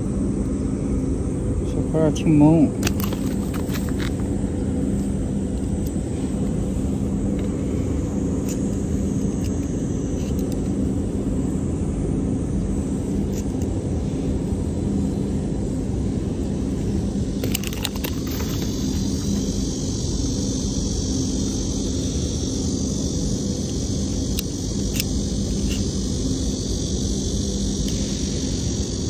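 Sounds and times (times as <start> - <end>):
low rumble with hum: 0.0 - 29.0.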